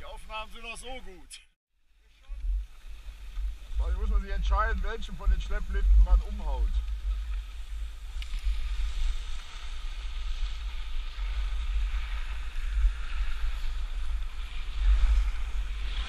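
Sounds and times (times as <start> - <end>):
skis sliding over snow: 2.1 - 16.0
wind buffeting microphone: 2.3 - 16.0.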